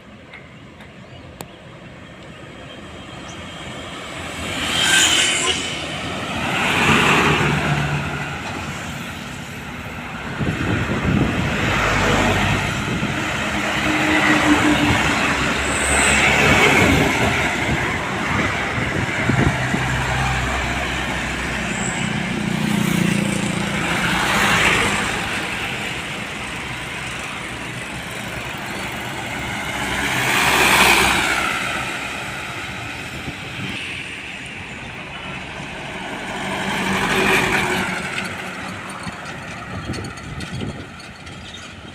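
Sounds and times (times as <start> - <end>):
highway traffic passing: 0.0 - 41.9.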